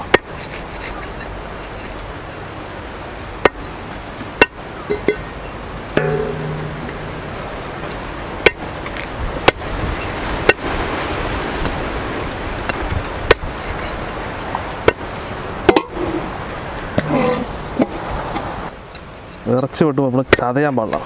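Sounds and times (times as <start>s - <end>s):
wind noise: 0.0s - 18.8s.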